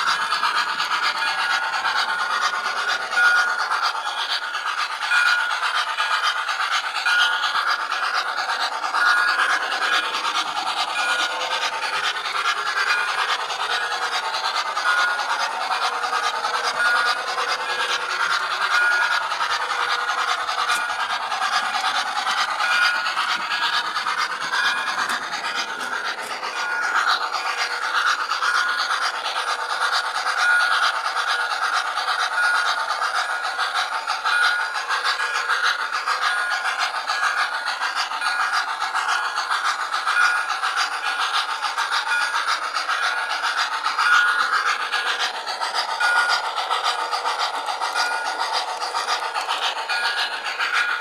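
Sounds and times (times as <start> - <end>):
model train rattling rumble: 0.0 - 51.0.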